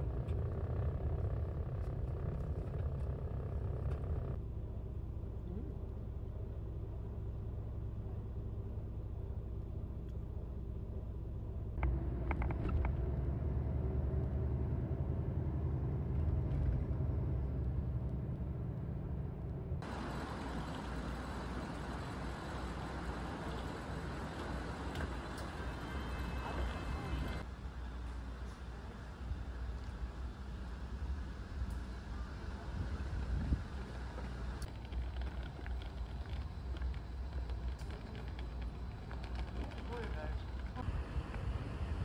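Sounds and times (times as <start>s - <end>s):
vehicle rumble: 0.0s - 42.0s.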